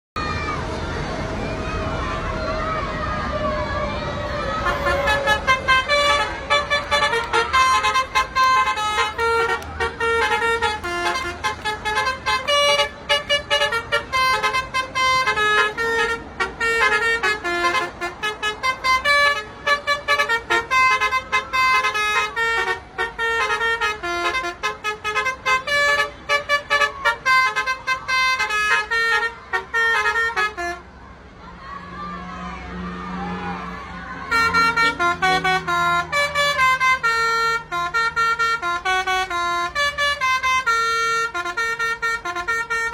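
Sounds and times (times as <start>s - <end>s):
multi-tone bus horn melody: 3.6s - 31.0s, 32.1s - 42.9s.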